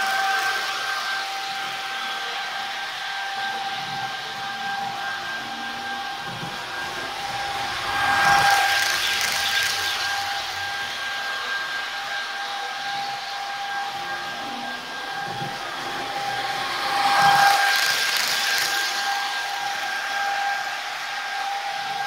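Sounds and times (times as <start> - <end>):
electric locomotive whine: 0.0 - 22.0
model train running on track: 0.0 - 22.0.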